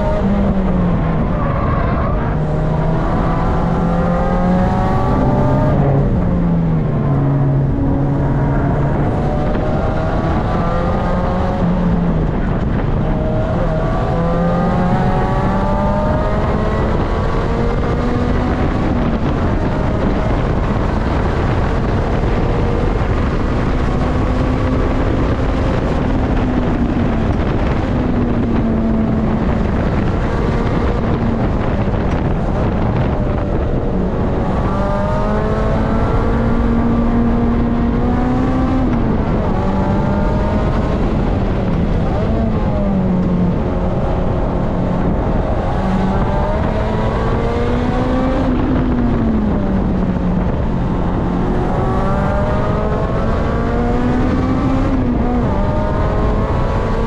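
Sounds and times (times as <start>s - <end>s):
car engine revving at full throttle: 0.0s - 57.0s
road and wind noise: 0.0s - 57.0s.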